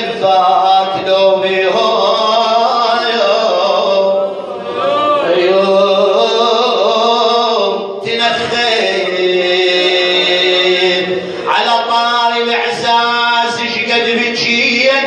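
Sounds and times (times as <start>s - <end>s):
man chanting a lament: 0.0s - 15.0s.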